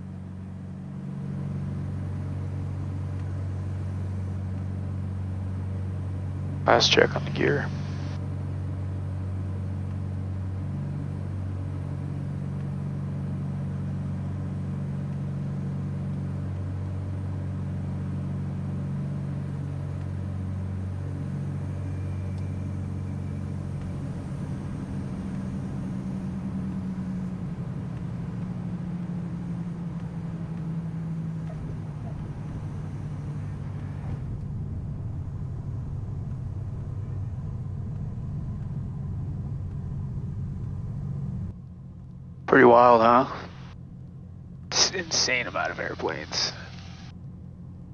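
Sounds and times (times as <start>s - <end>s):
twin piston engines droning: 0.0s - 47.9s.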